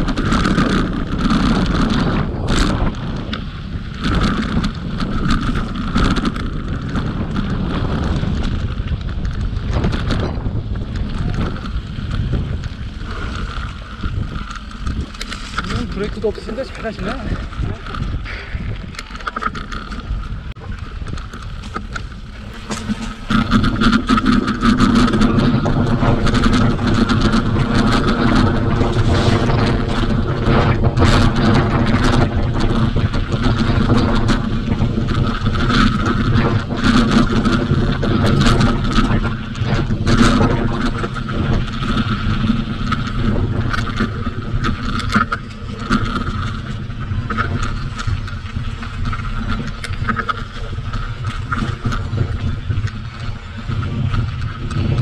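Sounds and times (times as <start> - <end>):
bike rattling over bumps: 0.0 - 55.0
bike tyres on dirt trail: 0.0 - 55.0
wind buffeting microphone: 0.0 - 55.0.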